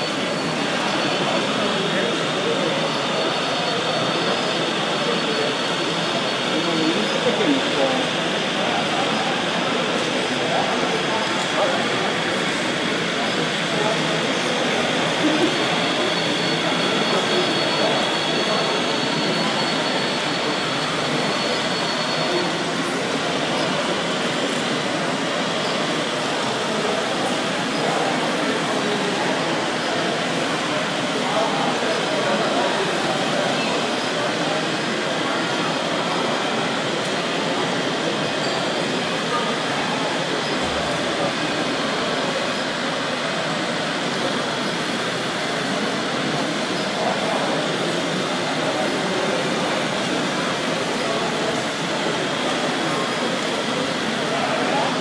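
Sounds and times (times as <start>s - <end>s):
faint high whine: 0.0s - 55.0s.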